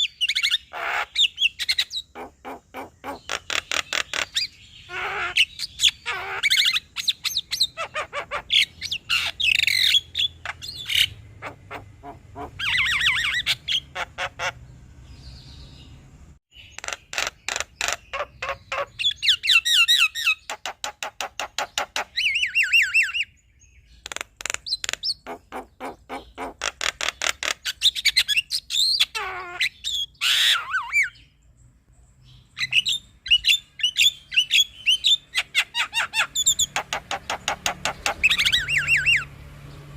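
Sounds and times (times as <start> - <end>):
myna bird singing: 0.0 - 39.9.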